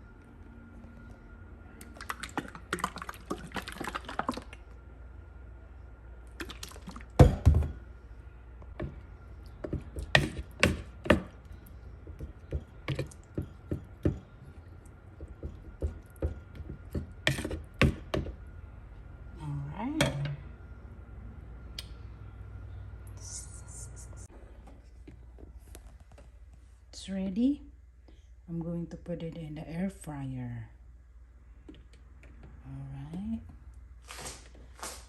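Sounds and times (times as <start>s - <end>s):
faint high hum: 0.0s - 35.0s.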